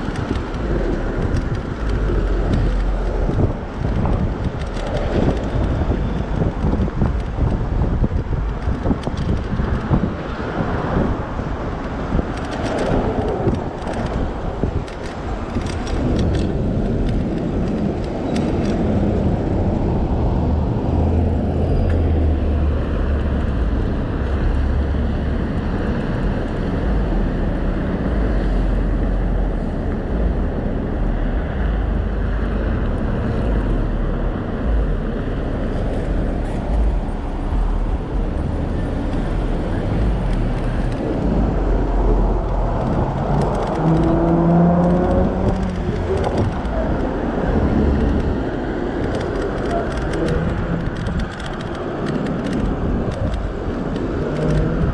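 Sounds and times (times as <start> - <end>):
road and traffic noise: 0.0 - 54.9
wind rumbling on microphone: 0.0 - 54.9.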